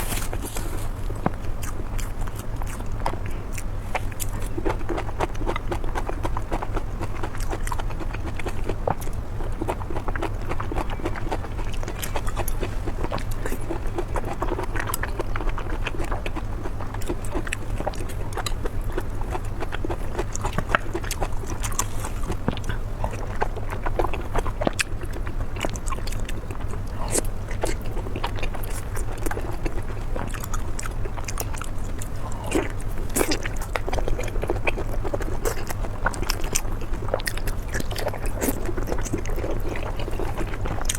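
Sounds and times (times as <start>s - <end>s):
person chewing and biting food: 0.0s - 40.9s
steady low hum: 0.0s - 40.9s.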